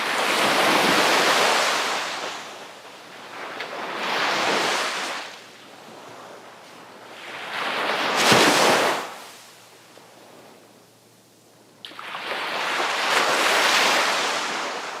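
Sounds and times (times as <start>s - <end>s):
sea waves breaking on shore: 0.0s - 9.6s, 11.8s - 15.0s.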